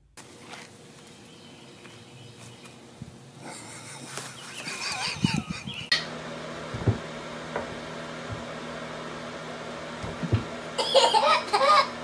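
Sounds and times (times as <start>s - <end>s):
outdoor sound: 0.0s - 12.0s
steady low hum: 0.0s - 12.0s.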